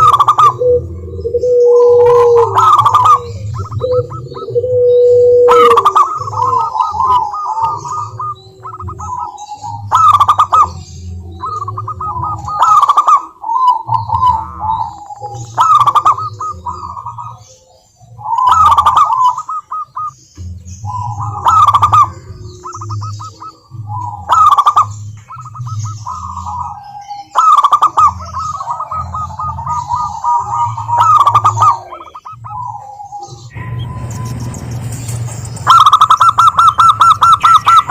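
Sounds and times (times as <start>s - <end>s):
dove cooing: 0.0s - 37.9s.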